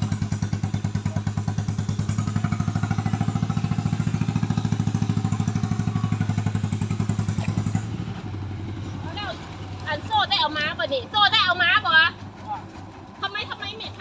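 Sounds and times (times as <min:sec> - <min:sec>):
vehicle engine chugging: 0:00.0 - 0:14.0.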